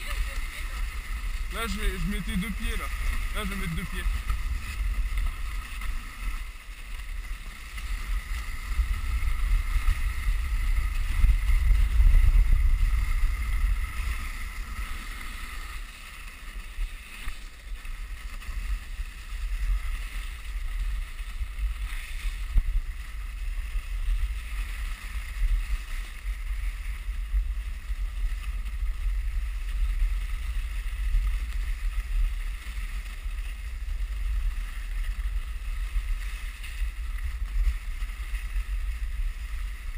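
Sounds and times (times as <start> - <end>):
sled runners hissing over snow: 0.0 - 39.9
wind rumble on microphone: 0.0 - 39.9.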